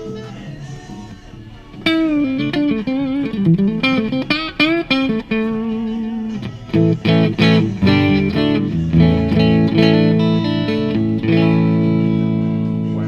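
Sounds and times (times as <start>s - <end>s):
electric guitar lead line: 0.0s - 13.0s
electric guitar strummed chords: 0.0s - 13.0s.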